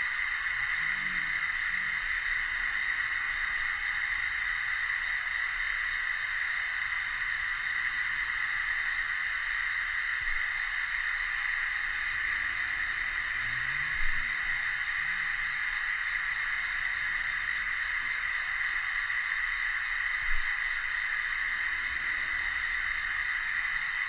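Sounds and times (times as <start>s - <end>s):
cicadas calling: 0.0s - 24.0s.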